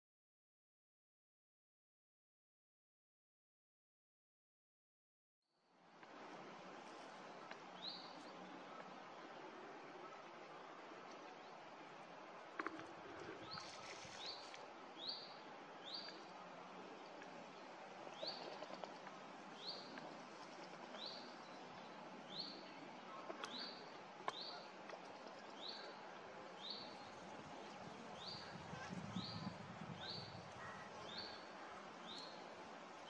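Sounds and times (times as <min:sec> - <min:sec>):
faint steady hiss: 0:05.6 - 0:33.0.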